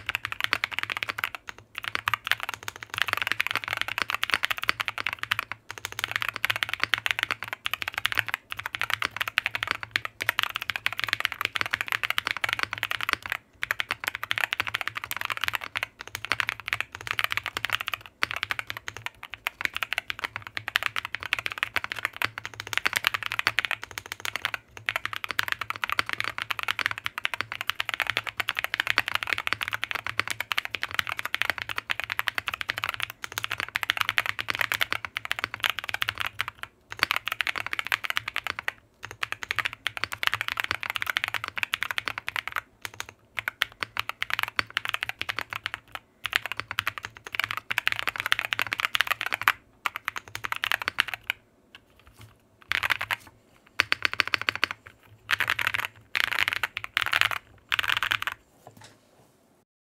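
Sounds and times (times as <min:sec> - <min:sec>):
fast mechanical keyboard typing: 0:00.0 - 0:58.4.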